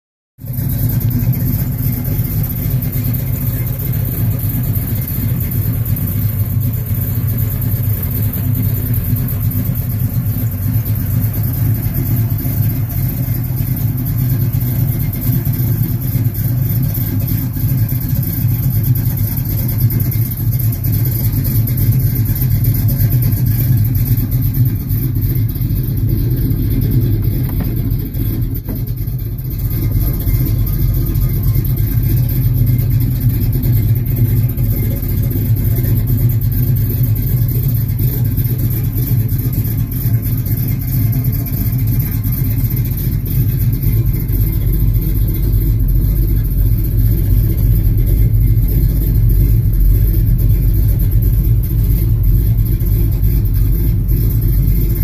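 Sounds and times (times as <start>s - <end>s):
pickup truck engine idling: 0.4s - 55.0s.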